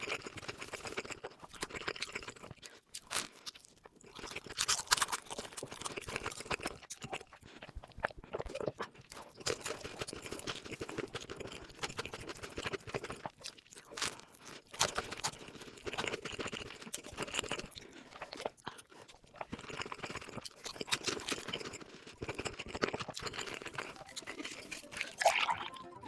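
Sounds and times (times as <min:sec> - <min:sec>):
crunchy food chewing: 0:00.0 - 0:26.0.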